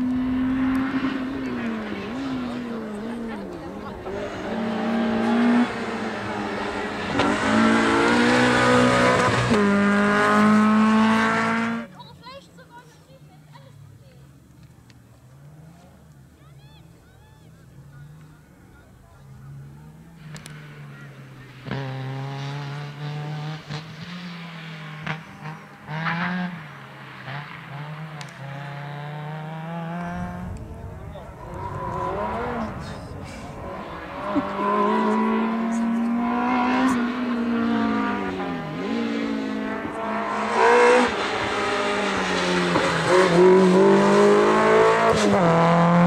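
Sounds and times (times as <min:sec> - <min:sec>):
rally car engine accelerating: 0:00.0 - 0:11.9, 0:17.8 - 0:46.0.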